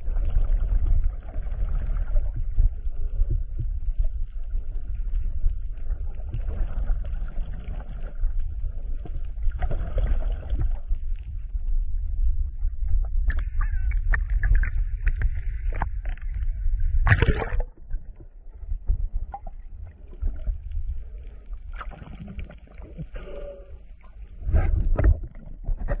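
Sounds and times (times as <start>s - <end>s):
sea water: 0.0s - 26.0s.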